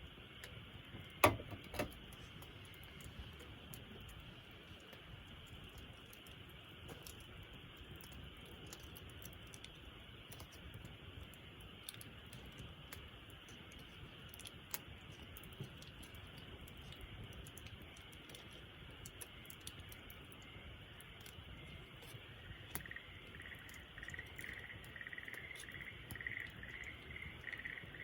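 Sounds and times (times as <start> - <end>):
campfire crackling and popping: 0.0 - 28.0
faint background noise: 0.0 - 28.0.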